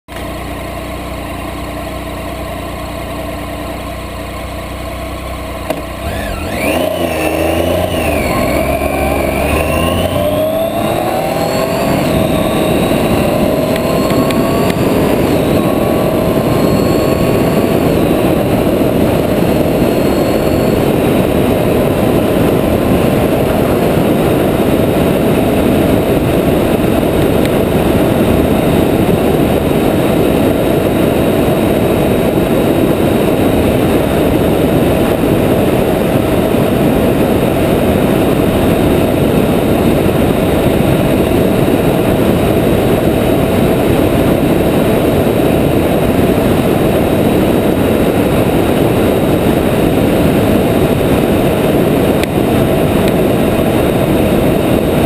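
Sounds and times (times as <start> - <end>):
motorcycle engine running: 0.1 - 55.0
wind and tyre noise on gravel: 0.1 - 55.0.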